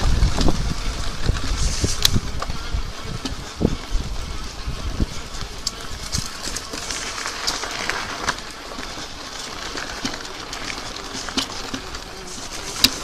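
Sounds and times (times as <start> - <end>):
small clicks and crackles: 0.0 - 13.0
tyres rolling on rough path: 0.0 - 13.0.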